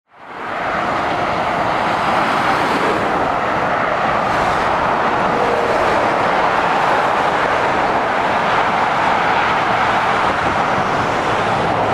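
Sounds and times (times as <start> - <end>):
motorway traffic noise: 0.1 - 11.9.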